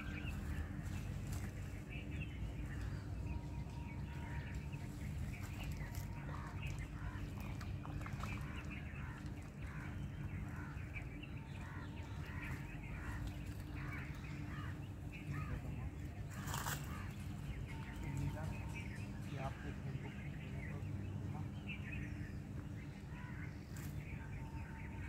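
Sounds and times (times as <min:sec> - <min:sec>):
birds calling: 0:00.0 - 0:25.0
steady low hum: 0:00.0 - 0:25.0.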